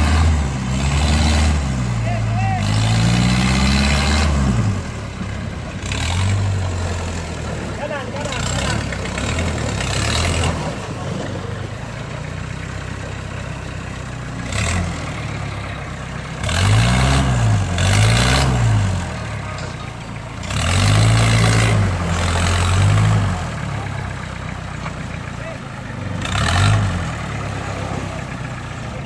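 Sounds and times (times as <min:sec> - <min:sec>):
off-road vehicle engine idling and revving: 0:00.0 - 0:29.0.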